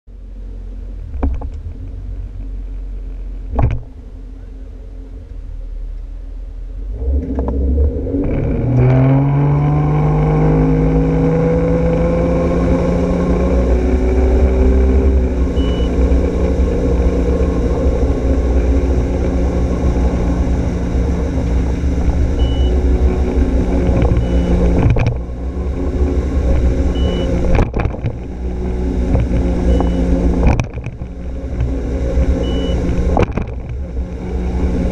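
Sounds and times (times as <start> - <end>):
boat engine: 0.1 - 8.1, 9.0 - 34.9.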